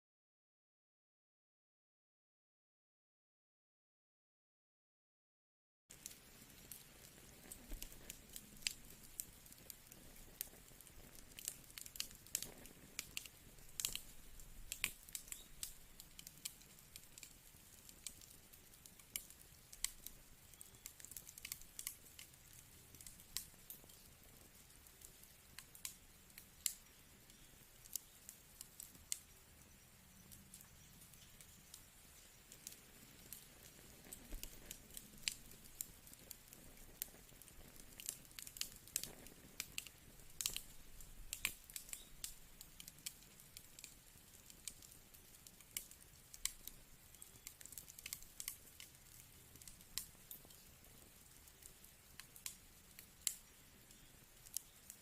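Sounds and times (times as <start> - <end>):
wood fire crackling: 5.9 - 55.0.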